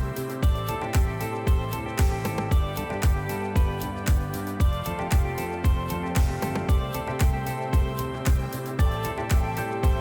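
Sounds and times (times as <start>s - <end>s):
background music with kick beat: 0.0s - 10.0s.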